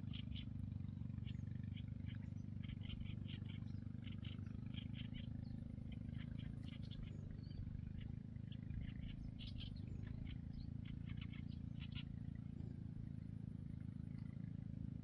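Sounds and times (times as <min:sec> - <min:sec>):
boat motor droning: 0:00.0 - 0:15.0.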